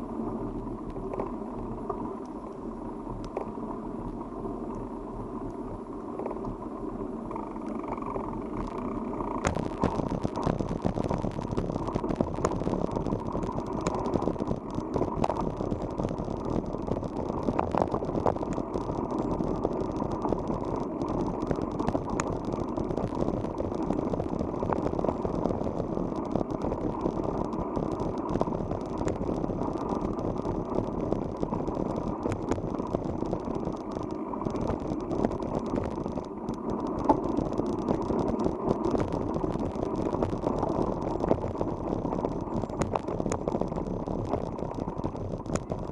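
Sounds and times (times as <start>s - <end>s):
bicycle tyres rumbling: 0.0s - 45.9s
wind: 0.0s - 45.9s
bike rattling and clicking: 7.3s - 45.9s.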